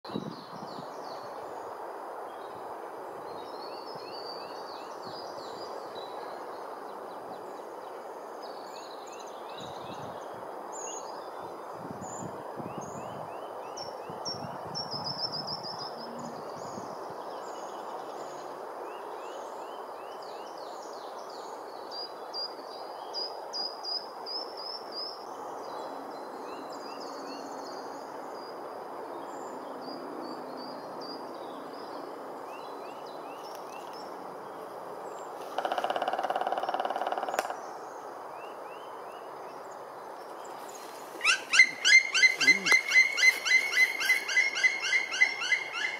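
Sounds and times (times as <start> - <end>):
background hiss and rumble: 0.2 - 45.9
songbirds chirping and trilling: 3.2 - 45.9.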